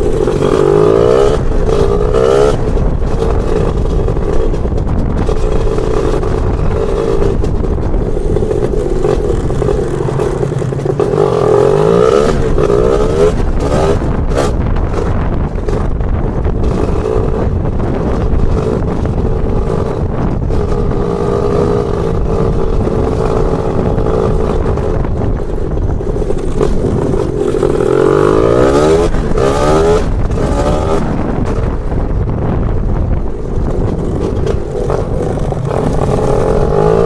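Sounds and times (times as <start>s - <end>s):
scooter two-stroke engine running: 0.0s - 37.0s.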